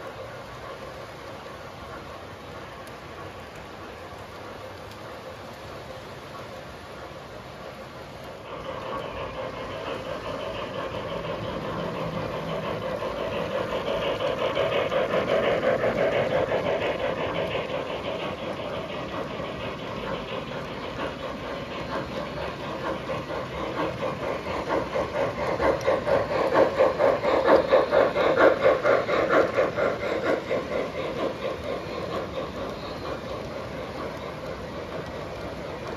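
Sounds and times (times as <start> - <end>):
model steam locomotive chuffing: 0.0 - 35.9
train wheels clicking over rails: 0.0 - 35.9.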